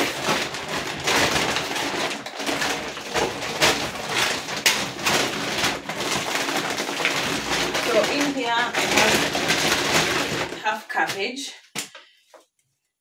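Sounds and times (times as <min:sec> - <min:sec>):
plastic bag rustling and crinkling: 0:00.0 - 0:11.4.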